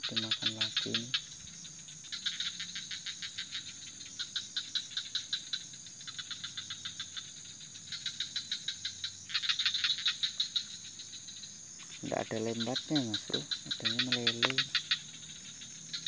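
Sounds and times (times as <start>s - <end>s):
crickets trilling: 0.0s - 16.0s
pulsing insect chirp: 0.0s - 16.0s.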